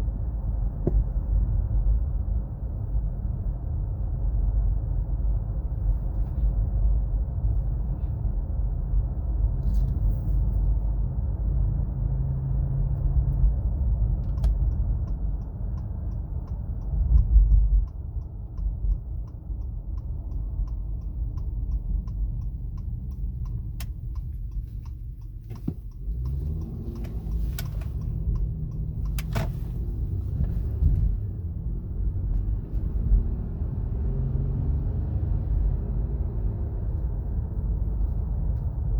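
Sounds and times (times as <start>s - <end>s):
car cabin road rumble: 0.0s - 38.9s
droning tire whine: 0.0s - 38.9s.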